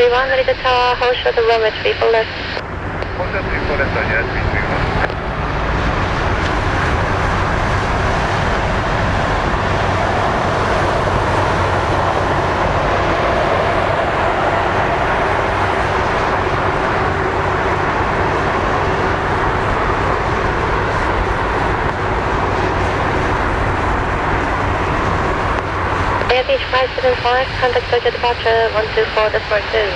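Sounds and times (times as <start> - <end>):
jet engines running with whine: 0.0 - 29.9.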